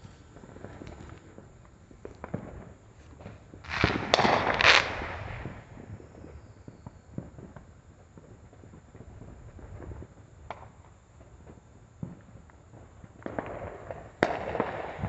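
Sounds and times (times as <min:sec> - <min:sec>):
faint firework pops: 0:00.0 - 0:15.0
fireworks crackling bang: 0:00.0 - 0:15.0.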